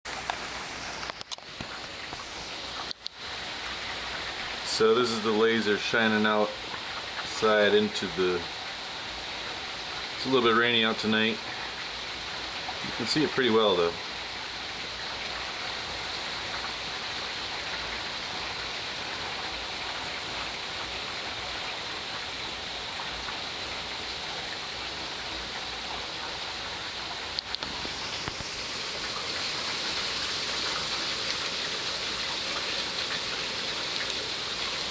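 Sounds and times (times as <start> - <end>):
light rain falling: 0.1 - 34.9.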